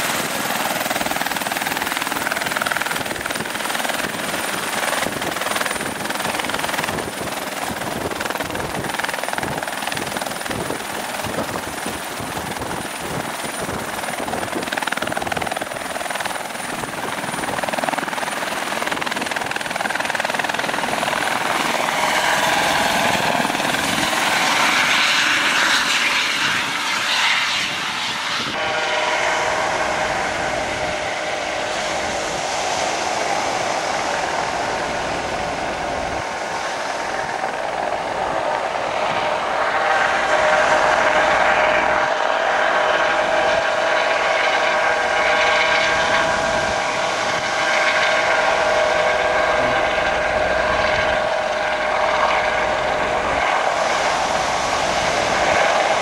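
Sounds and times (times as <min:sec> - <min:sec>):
helicopter turbine and rotor noise: 0:00.0 - 0:56.0.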